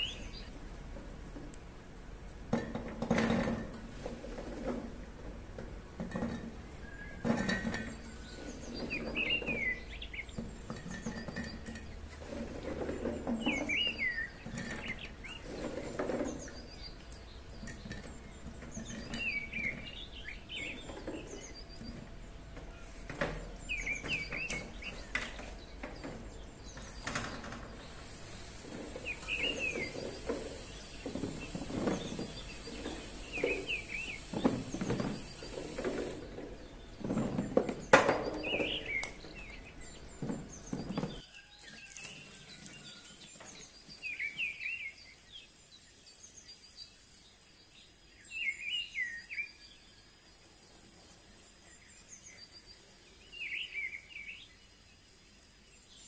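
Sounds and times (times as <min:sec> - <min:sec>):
songbird chirping: 0:00.0 - 0:01.6, 0:05.6 - 0:56.0.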